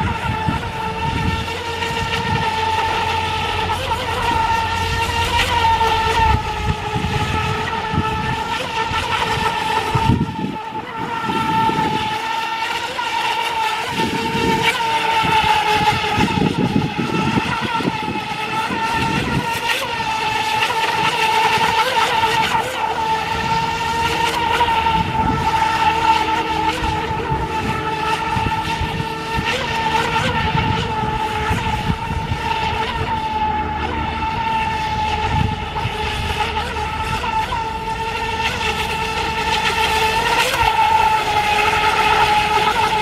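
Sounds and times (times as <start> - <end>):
electric boat motor whine: 0.0 - 43.0.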